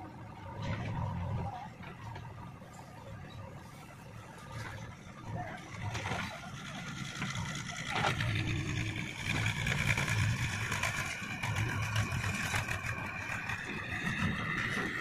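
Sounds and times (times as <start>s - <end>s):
diesel engines rumbling: 0.0s - 15.0s.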